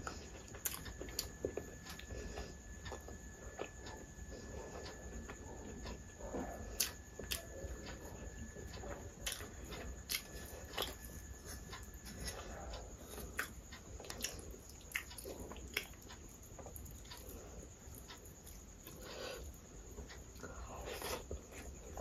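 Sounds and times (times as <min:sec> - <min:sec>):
chewing with mouth clicks: 0:00.0 - 0:22.0.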